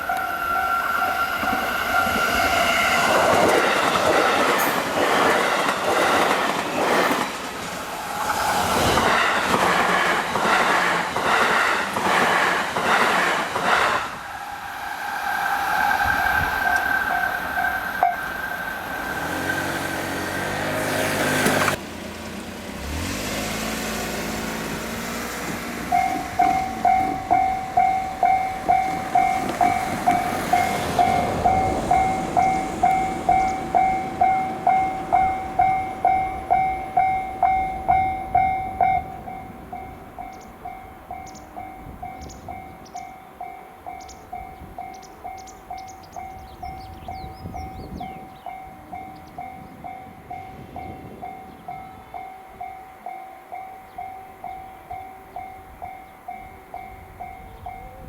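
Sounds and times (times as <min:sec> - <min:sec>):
crossing warning bell: 0:00.0 - 0:11.8, 0:15.4 - 0:21.8, 0:24.1 - 0:58.0
train wheels clattering on rails: 0:00.9 - 0:14.3, 0:15.8 - 0:52.7.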